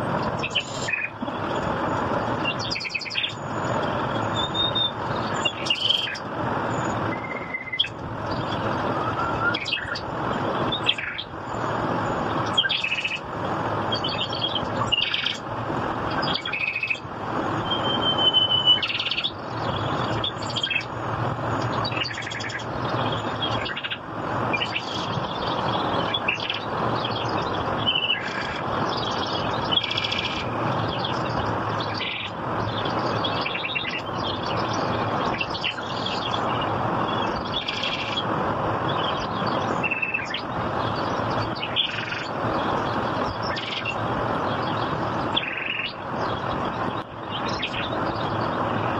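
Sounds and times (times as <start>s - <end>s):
rushing background noise: 0.0s - 48.9s
birds chirping and whistling: 0.1s - 1.8s, 2.4s - 13.2s, 13.8s - 15.4s, 16.1s - 48.9s.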